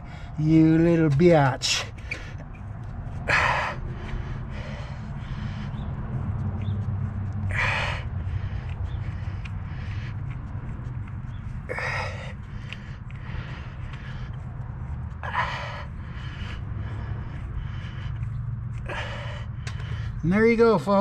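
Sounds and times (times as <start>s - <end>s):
man breathing heavily: 0.0s - 21.0s
steady low hum: 0.0s - 21.0s.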